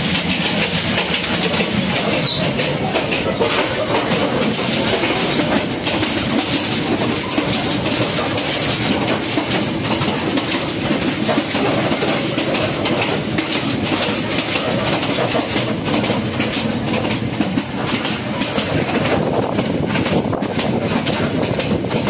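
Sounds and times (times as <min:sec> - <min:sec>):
train wheels clattering over rails: 0:00.0 - 0:22.0.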